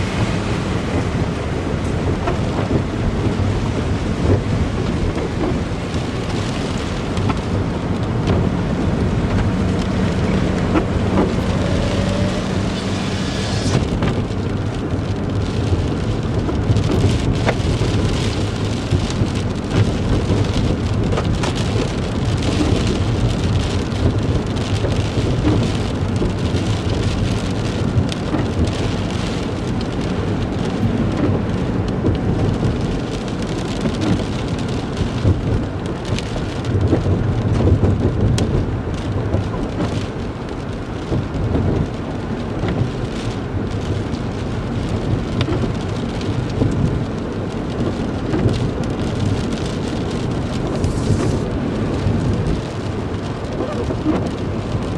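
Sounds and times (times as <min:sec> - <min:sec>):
car tyres and engine rumble: 0:00.0 - 0:54.9.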